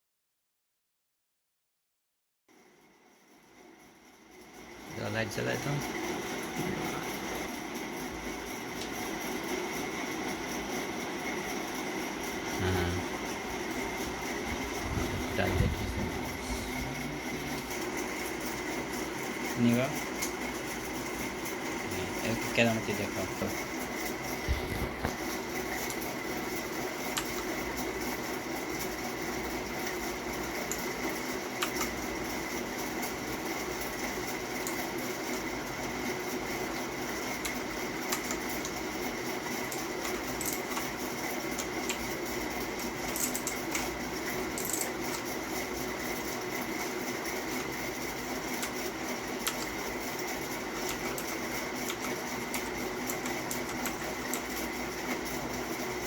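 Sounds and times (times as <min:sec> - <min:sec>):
mechanical hum with high whine: 0:02.5 - 0:56.0.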